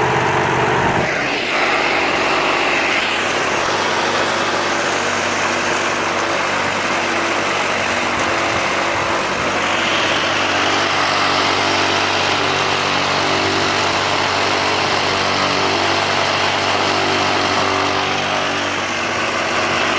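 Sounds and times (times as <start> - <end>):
vibrating motor hum: 0.0 - 19.9.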